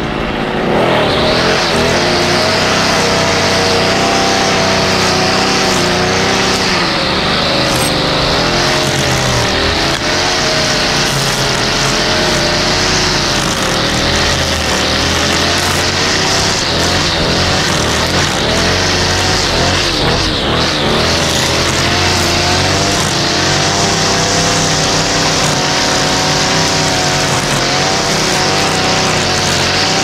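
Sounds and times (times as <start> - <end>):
string trimmer engine running: 0.0 - 30.0.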